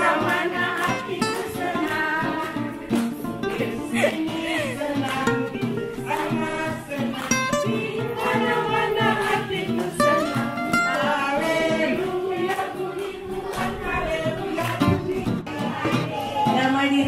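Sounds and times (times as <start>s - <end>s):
hands clapping in time: 0.0s - 15.5s
group singing along: 0.0s - 17.0s
song with singing and guitar: 0.0s - 17.0s.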